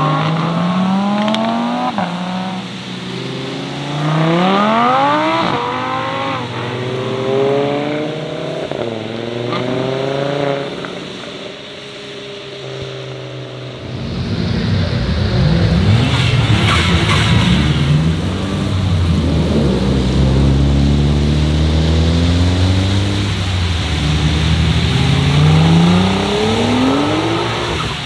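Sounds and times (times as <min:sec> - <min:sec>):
car engines accelerating: 0:00.0 - 0:28.0.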